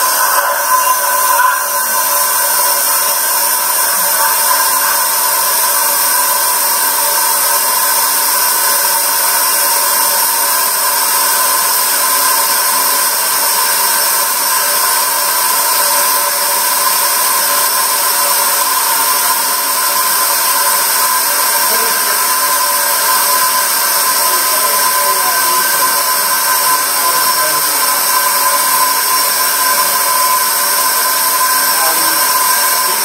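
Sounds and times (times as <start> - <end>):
faint steady whine: 0.0 - 33.0.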